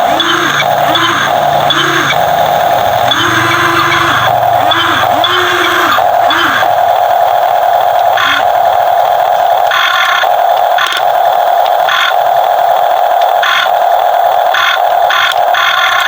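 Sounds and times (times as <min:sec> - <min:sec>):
toy excavator mechanical whine: 0:00.0 - 0:16.0.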